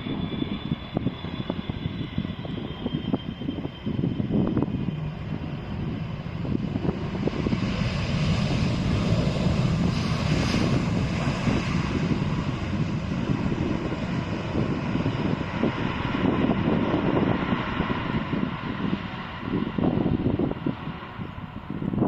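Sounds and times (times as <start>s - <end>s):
jet engines rumbling overhead: 0.0s - 22.0s.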